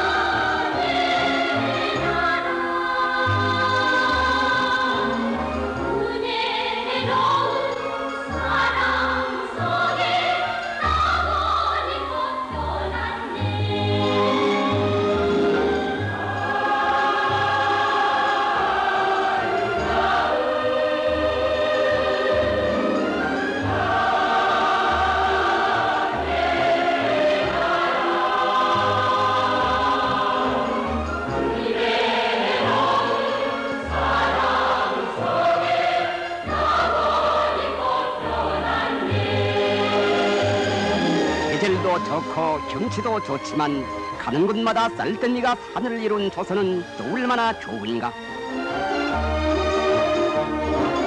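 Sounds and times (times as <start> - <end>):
choir singing held notes: 0.0 - 51.0.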